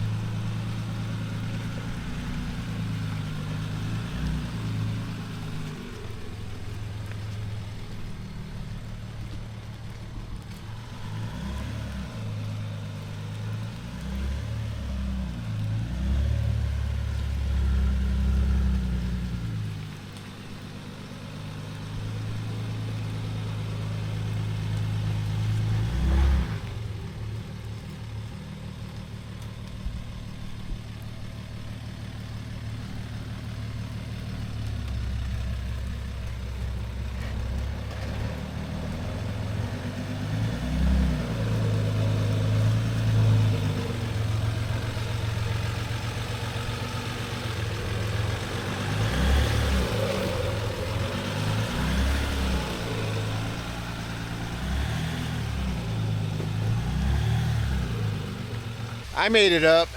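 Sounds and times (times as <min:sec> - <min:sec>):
diesel engine revving under load: 0:00.0 - 0:30.6, 0:31.2 - 0:59.9.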